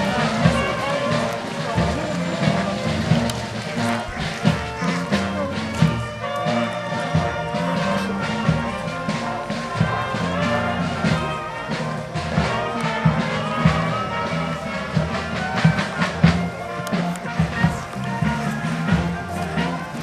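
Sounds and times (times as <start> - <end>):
band playing a march: 0.0 - 20.0
drum strokes: 0.0 - 20.0.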